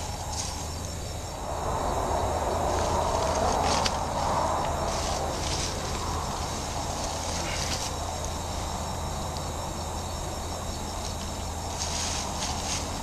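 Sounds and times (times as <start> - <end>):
rustling in brush and leaves: 0.0 - 9.6, 10.7 - 13.0
crickets chirring: 0.0 - 13.0.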